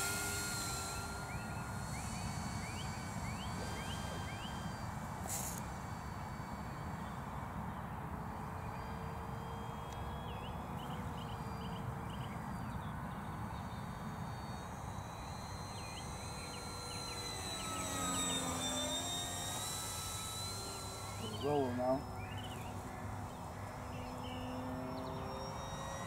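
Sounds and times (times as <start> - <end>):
model plane motor whining: 0.0 - 26.0.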